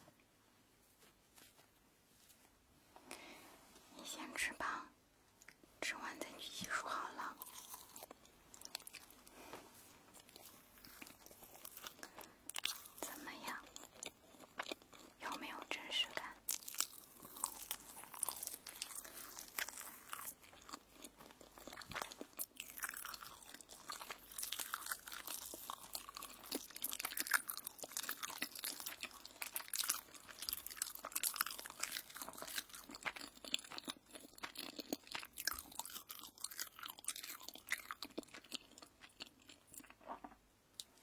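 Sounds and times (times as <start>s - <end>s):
crunching and chewing toast: 6.9s - 41.0s.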